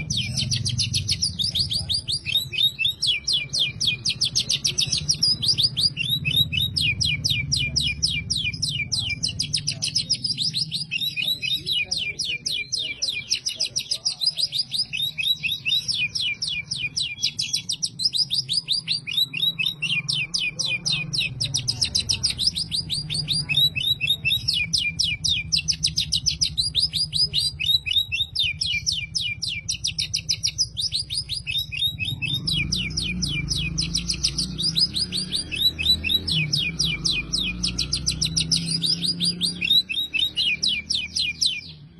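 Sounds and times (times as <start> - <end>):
bird singing rapid trills: 0.0 - 41.9.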